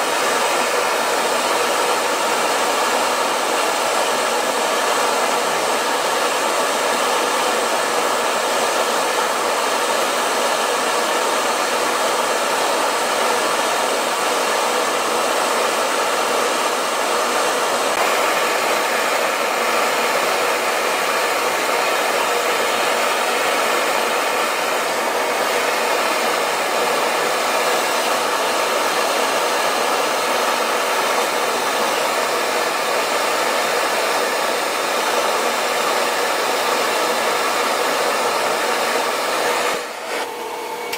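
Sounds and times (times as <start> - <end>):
metal spray gun hissing: 0.0 - 40.3.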